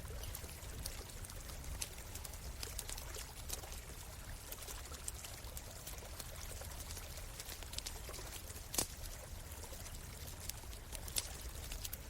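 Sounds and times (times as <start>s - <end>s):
campfire crackling and popping: 0.0s - 12.0s
flowing stream: 0.0s - 12.0s.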